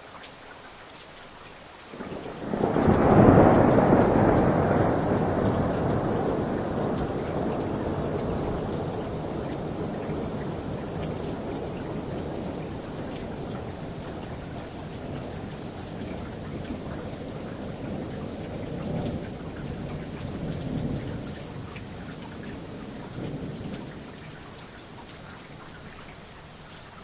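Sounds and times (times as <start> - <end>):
rain hissing: 0.0 - 27.0
wind: 0.0 - 27.0
thunder rumbling: 1.9 - 27.0.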